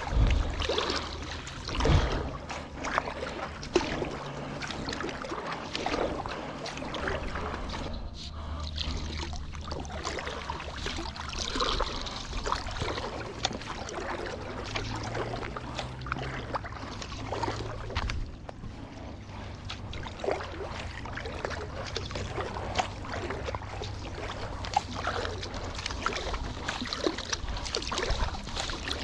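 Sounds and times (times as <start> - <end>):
paddle splashing in water: 0.0 - 29.0
water rushing along hull: 0.0 - 29.0.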